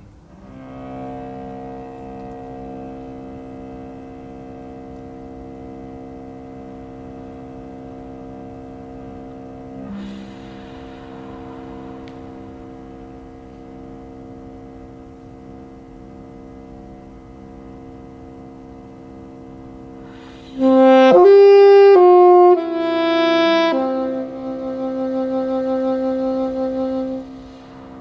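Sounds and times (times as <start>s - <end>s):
cello: 0.3s - 28.0s
saxophone: 0.3s - 28.0s.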